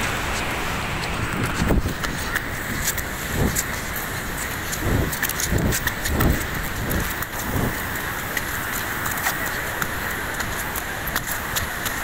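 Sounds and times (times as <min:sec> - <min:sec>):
footsteps on wet ground: 0:00.0 - 0:12.0
river rushing in flood: 0:00.0 - 0:12.0.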